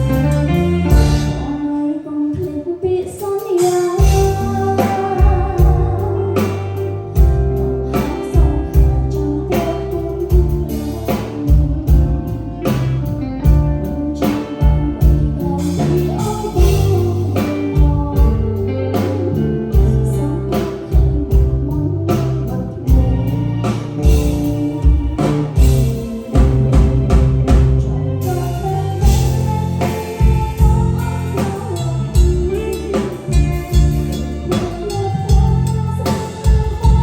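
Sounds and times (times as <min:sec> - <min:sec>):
live band playing: 0:00.0 - 0:37.0
woman singing: 0:00.0 - 0:37.0.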